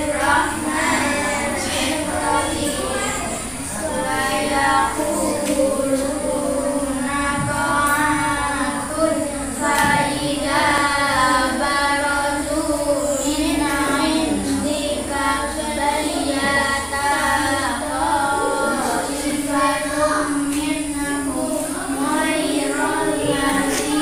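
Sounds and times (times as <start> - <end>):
children chanting recitation: 0.0 - 24.0.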